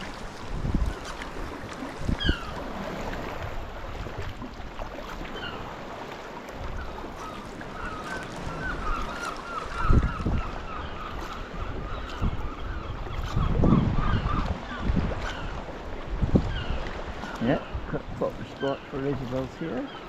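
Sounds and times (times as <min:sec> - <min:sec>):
seabirds calling: 0:00.0 - 0:20.0
water: 0:00.0 - 0:20.0
wind: 0:00.0 - 0:20.0.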